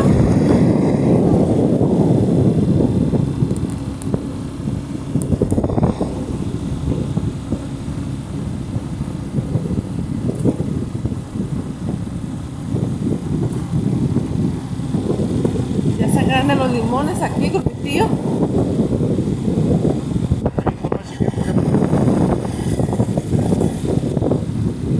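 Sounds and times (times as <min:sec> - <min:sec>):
motorcycle engine running: 0:00.0 - 0:24.9
wind buffeting microphone: 0:00.0 - 0:24.9.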